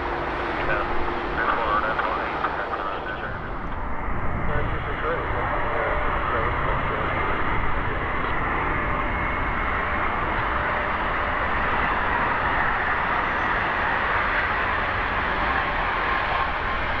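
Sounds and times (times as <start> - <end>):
jet airliner roar: 0.0 - 17.0.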